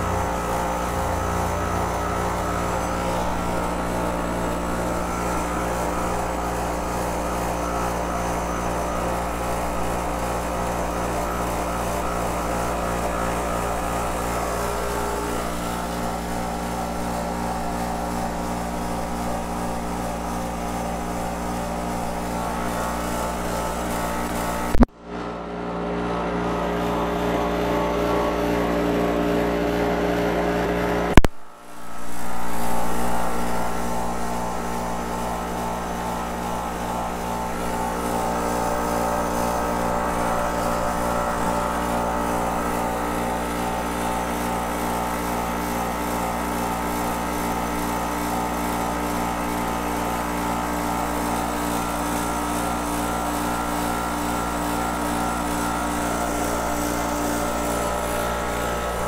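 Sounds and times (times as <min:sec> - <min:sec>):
compressor humming with pulse: 0:00.0 - 0:59.0.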